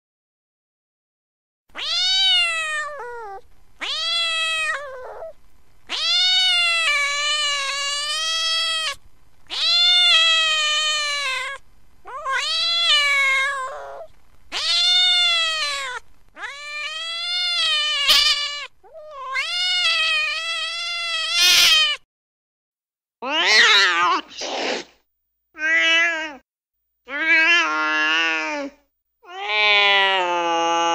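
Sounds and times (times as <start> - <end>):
cat yowling: 1.8 - 22.0, 23.2 - 24.4, 25.6 - 26.4, 27.1 - 30.9.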